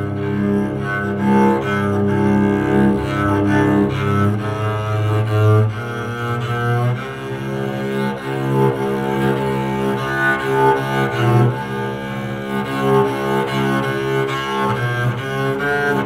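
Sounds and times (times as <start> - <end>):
bowed electric cello notes: 0.0 - 16.0.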